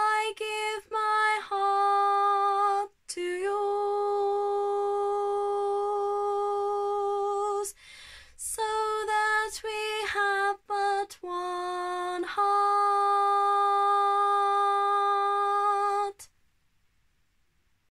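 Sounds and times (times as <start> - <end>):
woman singing unaccompanied: 0.0 - 7.8, 8.4 - 16.3.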